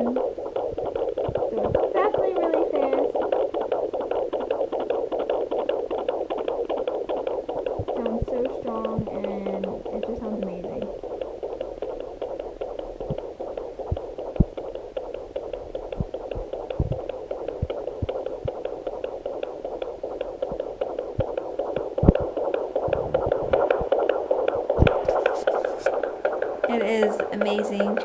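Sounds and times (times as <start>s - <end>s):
fetal heartbeat whooshing pulse: 0.0s - 28.0s
low thumps of probe: 0.0s - 28.0s.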